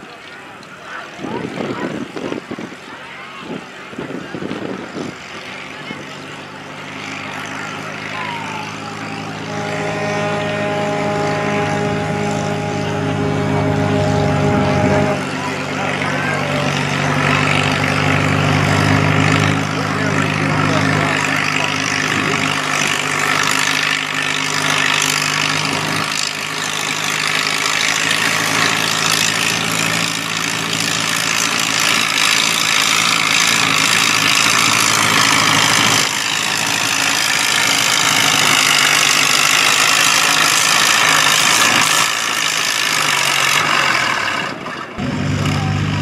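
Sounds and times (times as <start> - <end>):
tractor engine running under load: 0.0 - 46.0.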